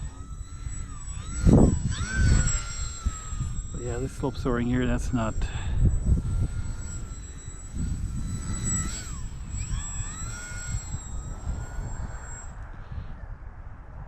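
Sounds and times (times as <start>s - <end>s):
model plane motor whining: 0.0s - 13.4s
wind buffeting microphone: 0.0s - 14.0s.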